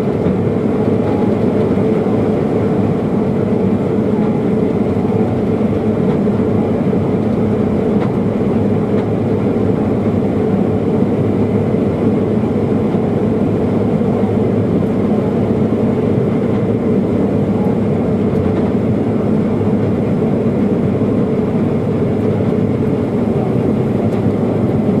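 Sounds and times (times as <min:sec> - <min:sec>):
combine harvester mechanical drone: 0:00.0 - 0:25.0.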